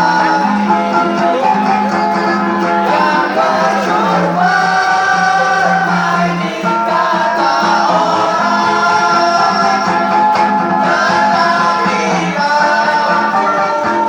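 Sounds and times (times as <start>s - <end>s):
choir singing sustained notes: 0.0s - 14.0s
musical accompaniment: 0.0s - 14.0s.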